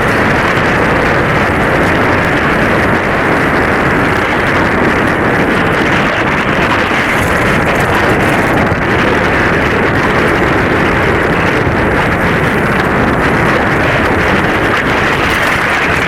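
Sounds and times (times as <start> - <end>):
rush of wind and water: 0.0 - 16.0
wind buffeting microphone: 0.0 - 16.0.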